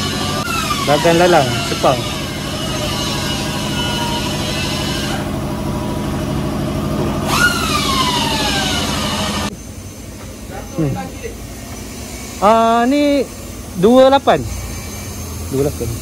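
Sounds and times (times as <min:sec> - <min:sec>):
motor running: 0:00.0 - 0:16.0.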